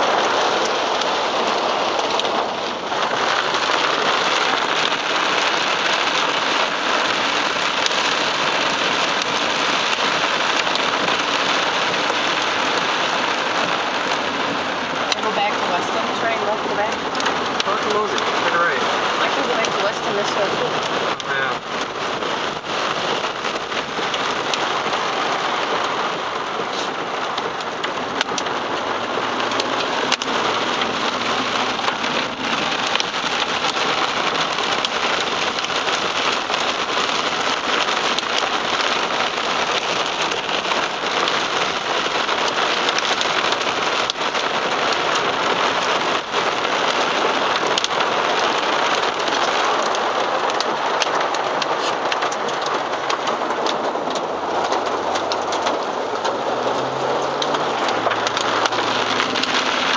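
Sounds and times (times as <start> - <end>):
heavy rain on a car roof: 0.0 - 59.9.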